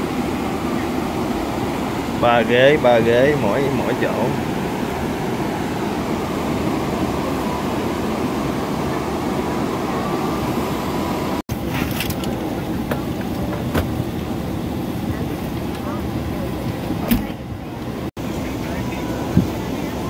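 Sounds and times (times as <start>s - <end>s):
airliner cabin hum: 0.0s - 20.0s
passengers murmuring: 0.0s - 20.0s.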